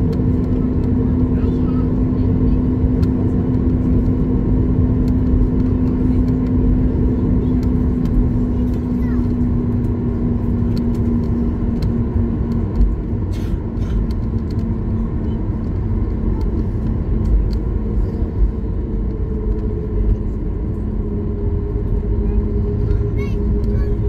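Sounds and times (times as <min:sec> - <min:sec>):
airplane cabin low rumble: 0:00.0 - 0:24.0
steady hum: 0:00.0 - 0:24.0.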